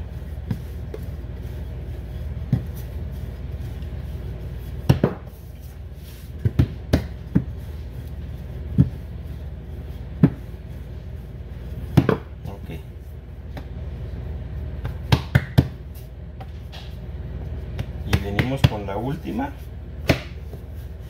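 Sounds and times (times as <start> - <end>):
rolling pin on dough: 0.0 - 21.0
steady low hum: 0.0 - 21.0.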